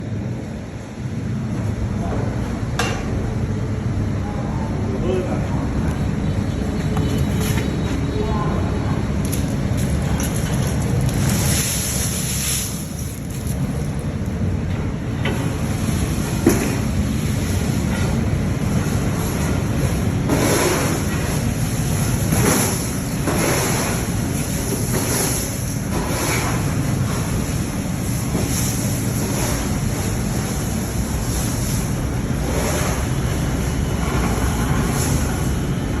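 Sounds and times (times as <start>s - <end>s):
furnace burning low rumble: 0.0s - 36.0s.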